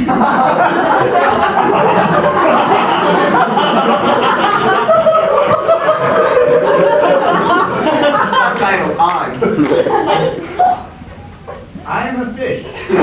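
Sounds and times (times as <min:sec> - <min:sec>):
people laughing: 0:00.0 - 0:11.9, 0:12.6 - 0:13.0.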